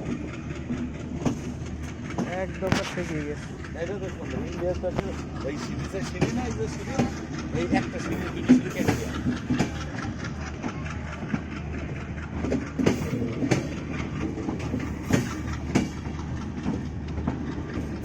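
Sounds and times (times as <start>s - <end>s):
train wheels rumbling on rails: 0.0s - 18.0s
wheels clacking over rail joints: 0.0s - 18.0s.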